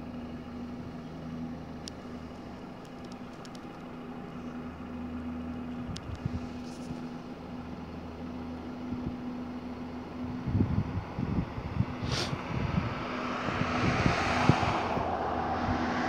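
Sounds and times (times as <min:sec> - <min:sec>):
car engine and road hum: 0:00.0 - 0:16.0.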